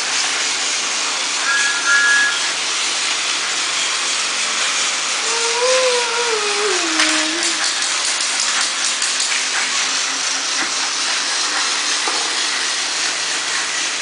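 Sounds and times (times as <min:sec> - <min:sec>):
toy train hissing whir: 0:00.0 - 0:14.0.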